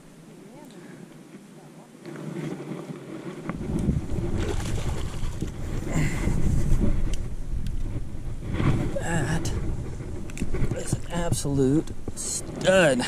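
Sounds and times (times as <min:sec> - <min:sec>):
wind buffeting microphone: 0:02.1 - 0:13.0.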